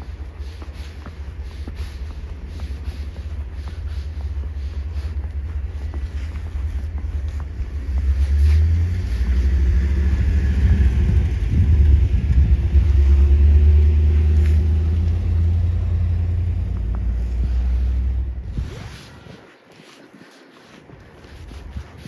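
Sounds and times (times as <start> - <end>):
vehicle engine rumbling: 0.0 - 18.9.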